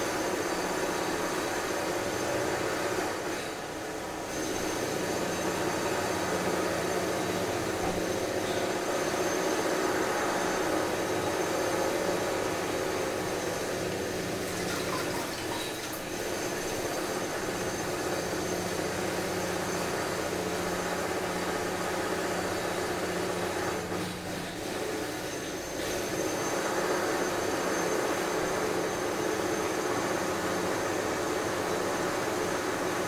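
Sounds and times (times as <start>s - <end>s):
construction machinery running: 0.0s - 33.0s.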